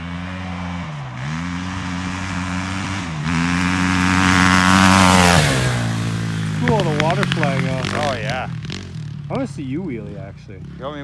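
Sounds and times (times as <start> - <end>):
quad engine accelerating: 0.0 - 11.0.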